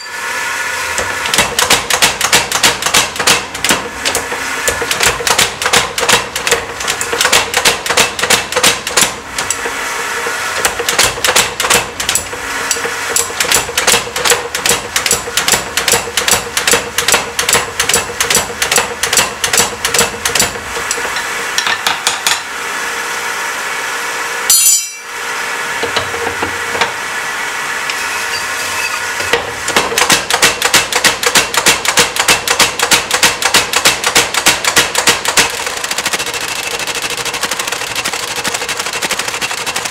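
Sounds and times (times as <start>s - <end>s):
steady hum: 0.0s - 39.9s
power hammer striking steel: 0.9s - 22.6s, 24.5s - 25.2s, 25.8s - 27.0s, 27.9s - 39.9s.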